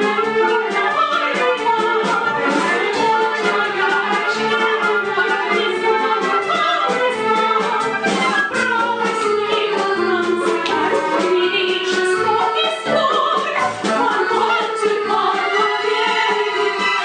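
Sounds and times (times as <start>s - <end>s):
orchestra playing show music: 0.0s - 17.0s.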